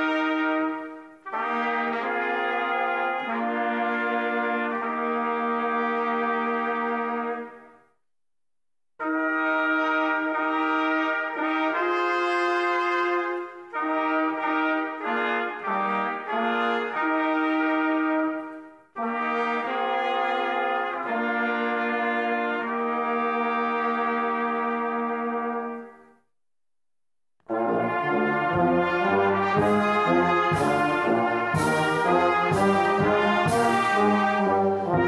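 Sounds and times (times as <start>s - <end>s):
brass band playing a hymn: 0.0s - 7.8s, 9.0s - 26.0s, 27.5s - 35.0s.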